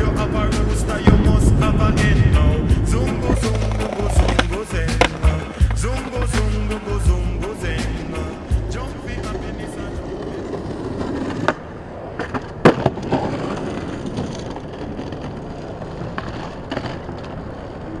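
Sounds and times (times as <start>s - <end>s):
skateboard wheels rolling on paving: 0.0s - 18.0s
skateboard clack: 0.4s - 18.0s.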